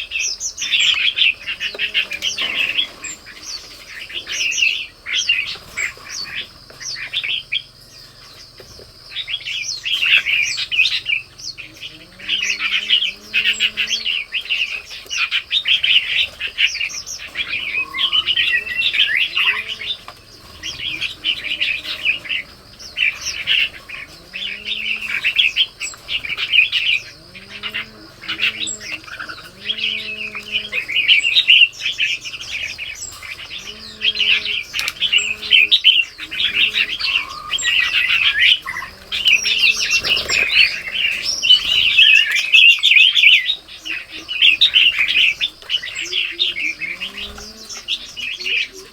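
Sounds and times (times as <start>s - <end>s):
birds chirping and calling: 0.0s - 48.9s
lower curved bird calls: 0.0s - 48.9s.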